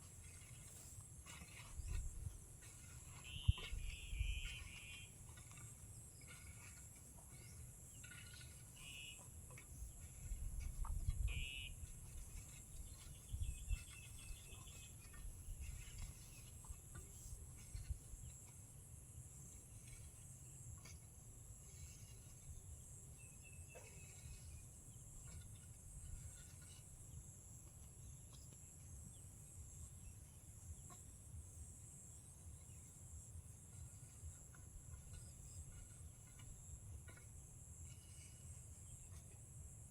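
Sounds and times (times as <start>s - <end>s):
crickets droning: 0.1s - 39.9s.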